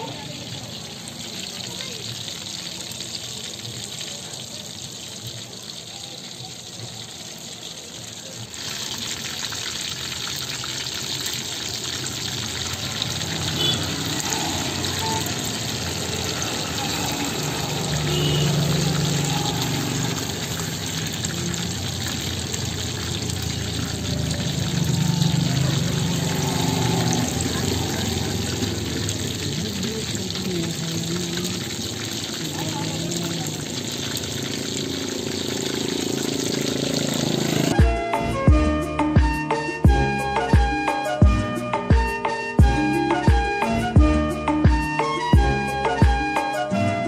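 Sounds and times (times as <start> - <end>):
oil bubbling and sizzling: 0.0 - 38.6.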